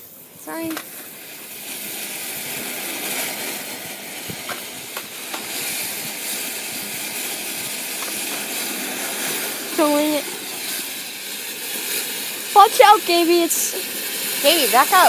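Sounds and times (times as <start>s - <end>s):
firework crackles: 0.0s - 15.0s
firework hissing: 0.0s - 15.0s.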